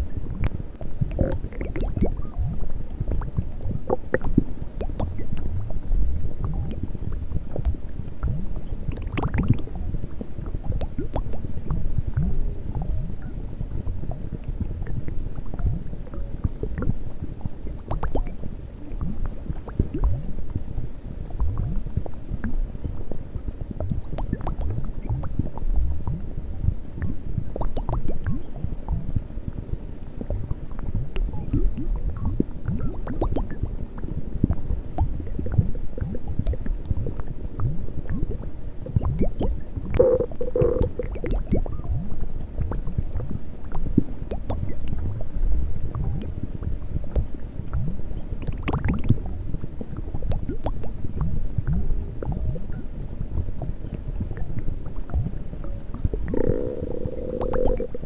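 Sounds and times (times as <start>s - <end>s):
stomach growling and gurgling: 0.0s - 58.0s.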